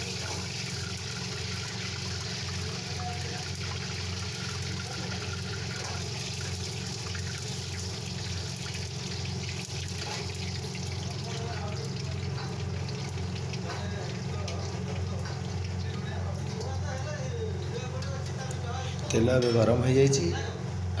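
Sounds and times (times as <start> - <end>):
gas burner roaring: 0.0 - 19.2.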